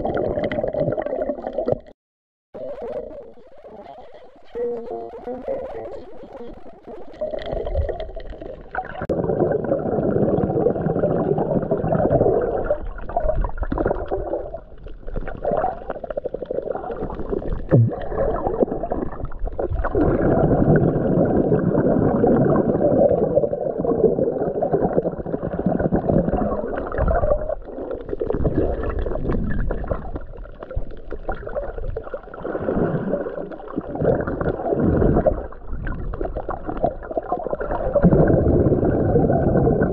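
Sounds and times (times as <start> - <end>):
muffled underwater rushing water: 0.0 - 1.9, 2.6 - 39.9.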